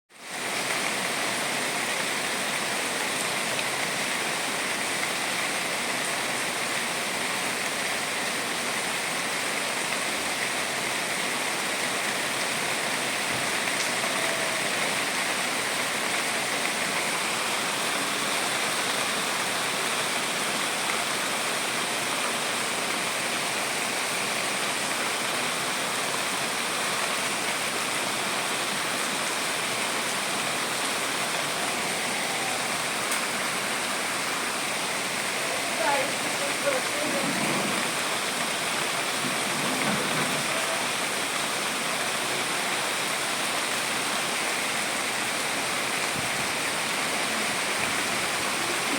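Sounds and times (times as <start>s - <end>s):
steady rain: 0.1s - 48.9s.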